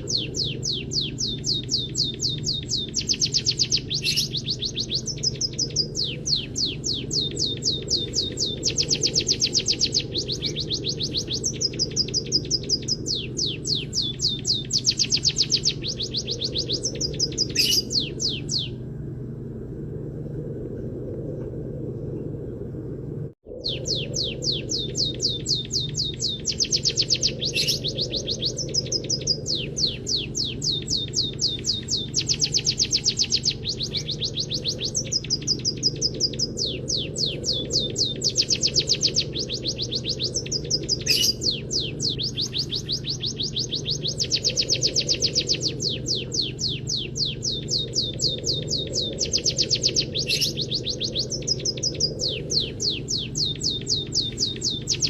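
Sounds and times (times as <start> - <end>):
songbird trilling: 0.0 - 18.8, 23.6 - 55.0
steady low hum: 0.0 - 55.0.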